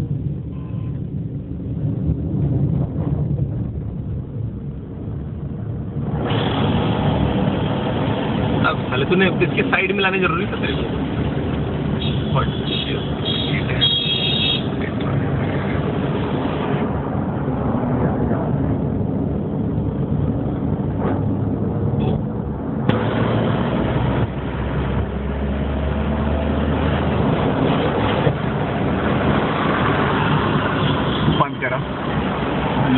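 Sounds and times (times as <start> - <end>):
vehicle engine hum and road noise: 0.0 - 32.9.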